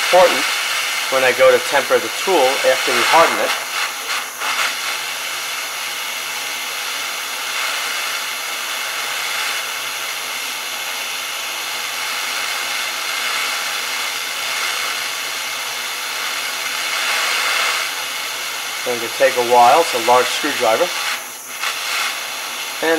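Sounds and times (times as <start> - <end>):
hand torch hissing: 0.0 - 22.9.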